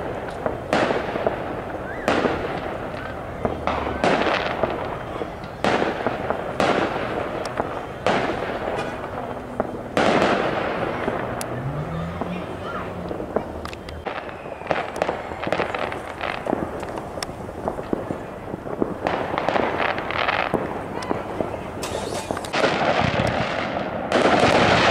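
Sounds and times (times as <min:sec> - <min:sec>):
fireworks booming: 0:00.0 - 0:24.9
fireworks crackling pops: 0:00.0 - 0:24.9.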